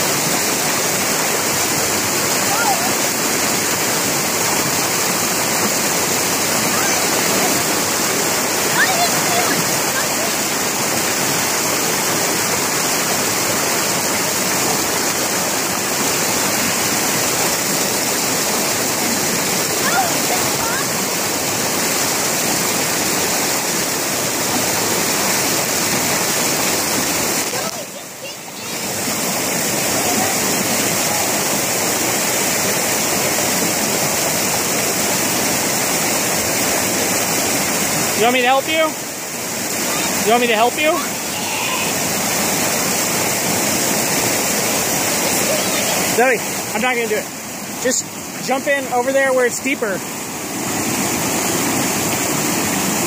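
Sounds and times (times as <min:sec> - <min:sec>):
river water rushing over rocks: 0:00.0 - 0:53.0.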